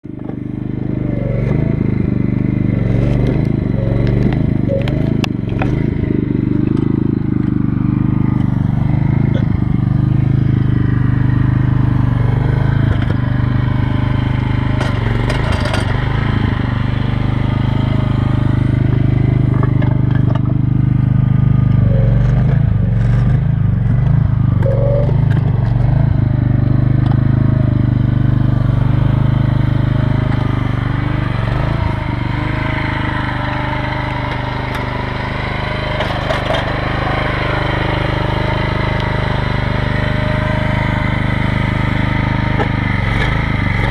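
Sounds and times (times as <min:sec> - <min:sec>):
small excavator engine running: 0:00.0 - 0:43.9.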